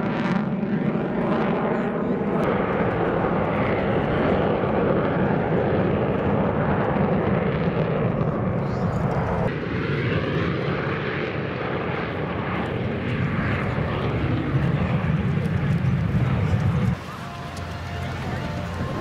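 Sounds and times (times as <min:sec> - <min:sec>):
jet engines roaring: 0:00.0 - 0:19.0
jet fighters flying overhead: 0:00.0 - 0:19.0.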